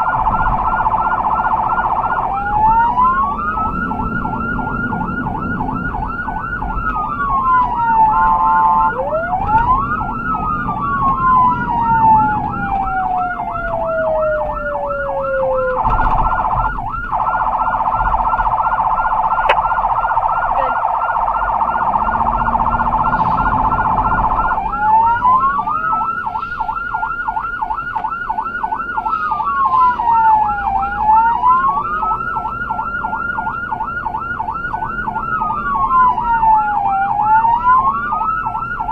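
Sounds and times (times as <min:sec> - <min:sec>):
siren yelping: 0:00.0 - 0:38.9.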